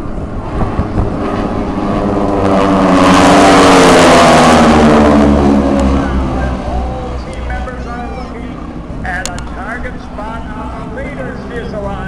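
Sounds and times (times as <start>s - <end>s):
propeller planes passing by: 0.0s - 12.0s.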